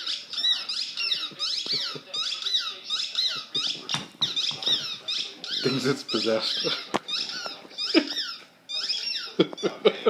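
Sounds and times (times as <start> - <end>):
dog chewing squeaky ball: 0.0 - 9.6.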